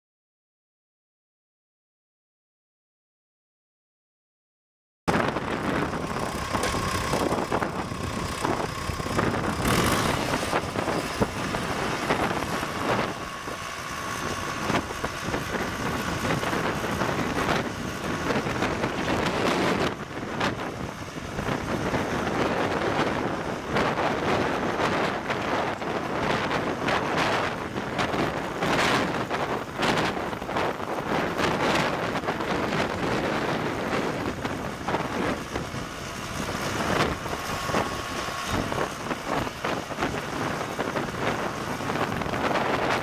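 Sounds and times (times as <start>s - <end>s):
tractor diesel engine running: 5.1s - 43.0s
wind on microphone: 5.1s - 43.0s.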